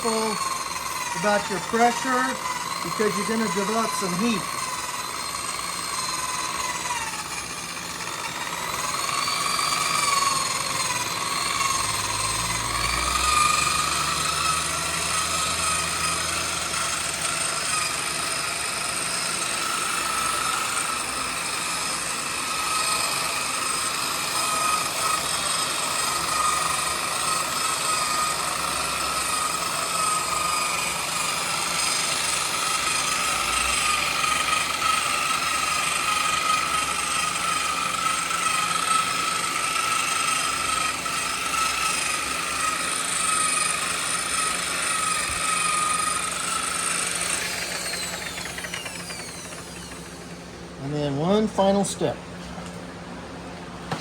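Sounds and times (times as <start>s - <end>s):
electric polisher motor whine: 0.0s - 52.0s.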